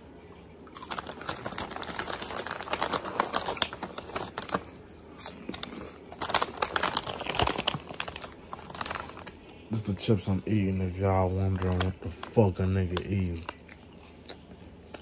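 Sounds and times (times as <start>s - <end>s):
plastic chip bag crinkling: 0.5s - 15.0s.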